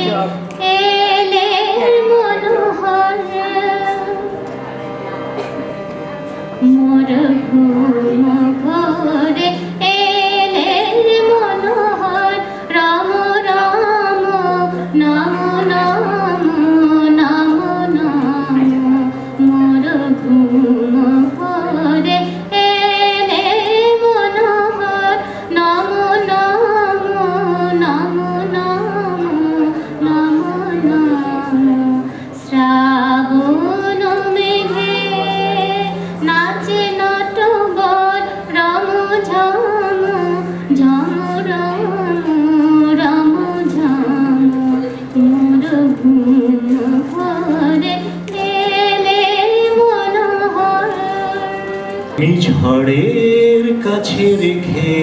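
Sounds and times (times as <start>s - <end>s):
woman singing: 0.0s - 4.3s, 6.6s - 52.0s
harmonium notes: 0.0s - 55.0s.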